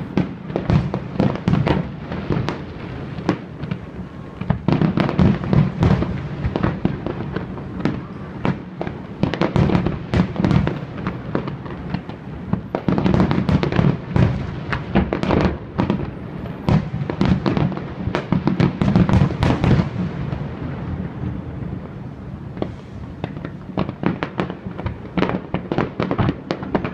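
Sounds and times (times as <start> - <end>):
fireworks bursting and crackling: 0.0 - 26.9.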